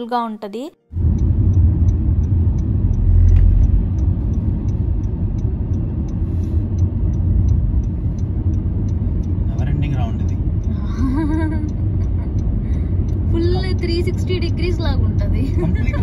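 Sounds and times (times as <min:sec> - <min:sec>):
car road noise rumble: 0:00.9 - 0:16.0
faint regular ticking: 0:00.9 - 0:16.0.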